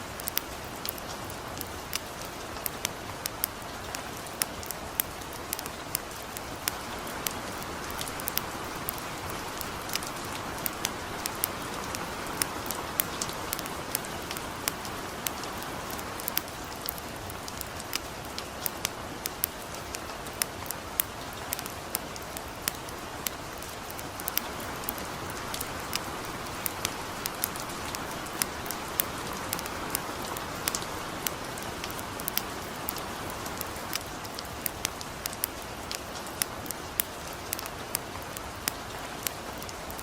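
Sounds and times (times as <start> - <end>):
campfire crackling: 0.0 - 40.0
light rain hissing: 0.0 - 40.0.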